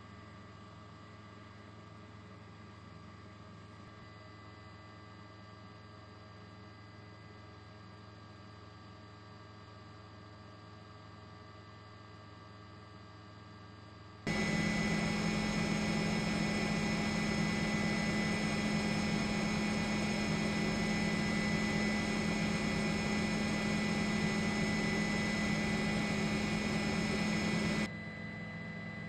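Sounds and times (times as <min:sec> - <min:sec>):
helicopter engine and rotor drone: 0:00.2 - 0:29.0.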